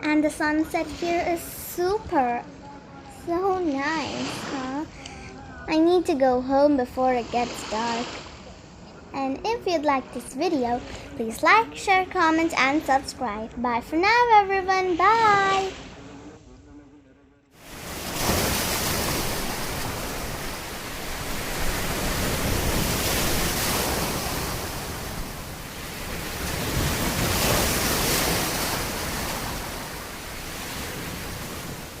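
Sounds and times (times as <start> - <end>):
ocean surf: 0.0 - 16.3, 17.6 - 32.0.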